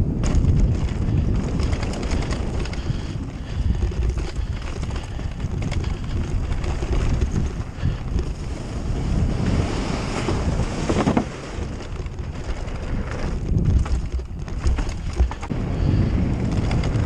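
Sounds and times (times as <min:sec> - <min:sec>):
bike rumbling and rattling: 0:00.0 - 0:17.0
wind buffeting microphone: 0:00.0 - 0:17.0.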